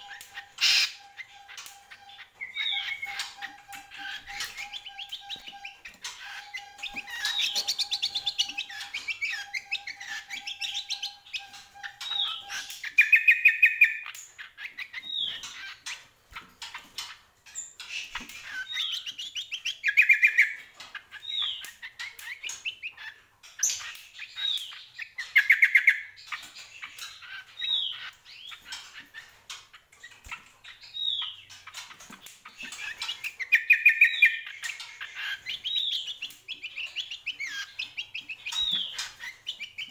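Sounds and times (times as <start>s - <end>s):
bird whistling and trilling: 0.0s - 16.0s, 17.8s - 29.4s, 32.4s - 39.9s.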